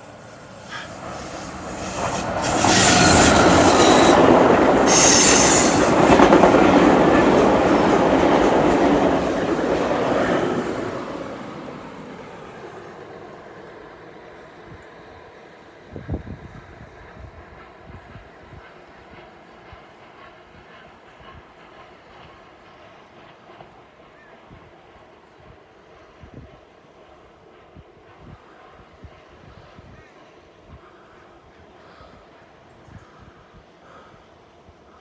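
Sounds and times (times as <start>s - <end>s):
train passing rumble: 0.0s - 33.7s.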